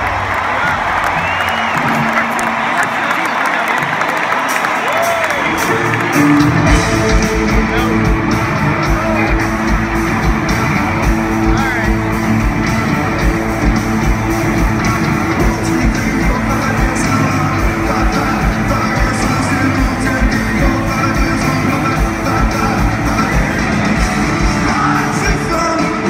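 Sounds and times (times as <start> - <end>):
electric guitars: 0.0 - 26.0
steady drum beat: 0.0 - 26.0
live rock band playing loud: 0.1 - 26.0.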